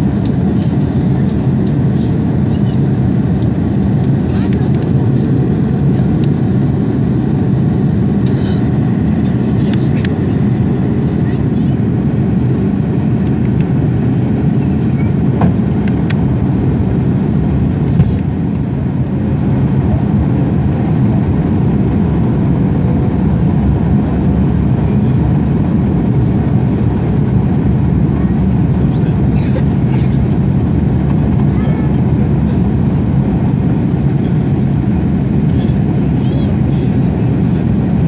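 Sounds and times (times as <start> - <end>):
aircraft cabin engine rumble: 0.0 - 38.0.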